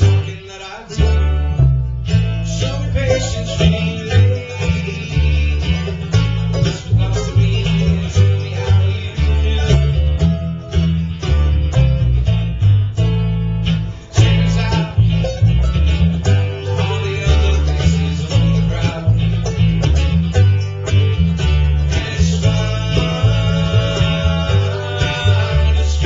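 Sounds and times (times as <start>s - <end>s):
acoustic guitar picking: 0.0s - 26.0s
mandolin picking: 0.0s - 26.0s
upright bass plucking: 0.0s - 26.0s.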